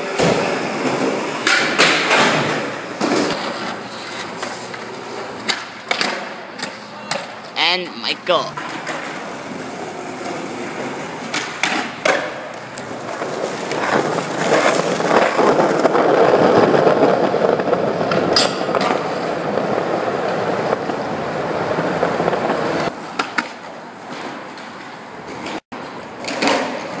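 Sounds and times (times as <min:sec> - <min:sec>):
skateboard clacks: 0:00.0 - 0:07.5, 0:08.6 - 0:21.1, 0:21.8 - 0:27.0
skateboard wheels rolling on concrete: 0:00.0 - 0:07.5, 0:08.6 - 0:27.0.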